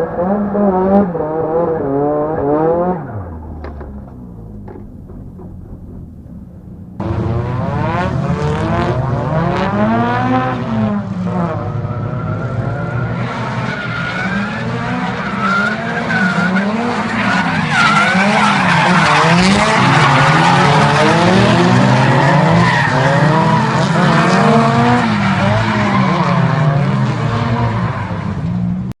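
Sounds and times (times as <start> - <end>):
car engine revving: 0.0 - 28.5.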